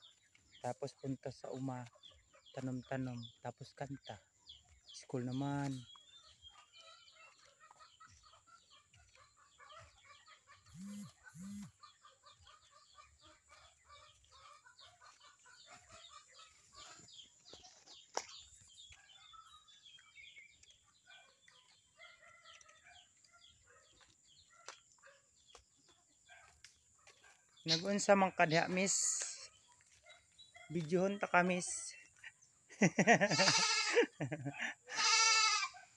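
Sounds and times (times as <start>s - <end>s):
chickens clucking: 0.0s - 33.6s.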